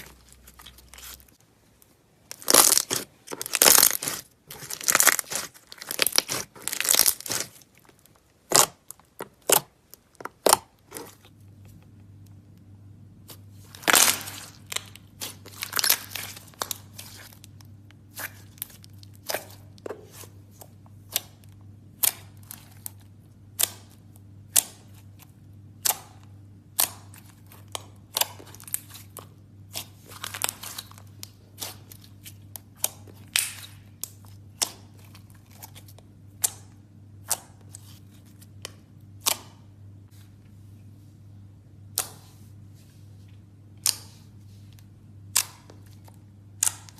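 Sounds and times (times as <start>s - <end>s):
faint low hum: 0.0s - 46.9s.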